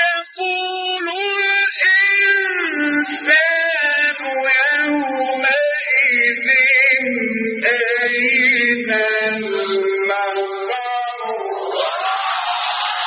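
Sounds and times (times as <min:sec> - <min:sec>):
man chanting melodically: 0:00.0 - 0:11.9.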